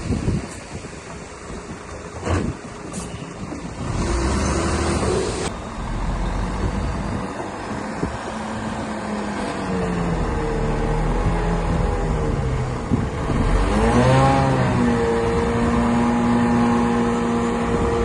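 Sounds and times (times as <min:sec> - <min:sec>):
bulldozer diesel engine under load: 0:00.0 - 0:18.0.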